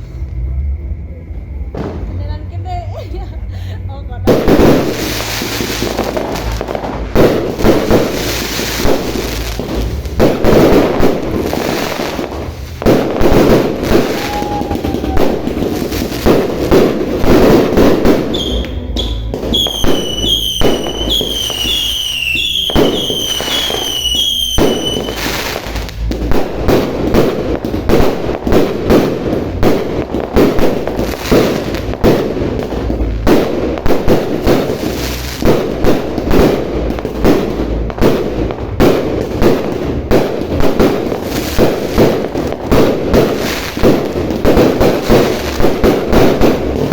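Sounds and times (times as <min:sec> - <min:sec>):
fireworks and firecrackers banging: 0:00.0 - 0:46.9.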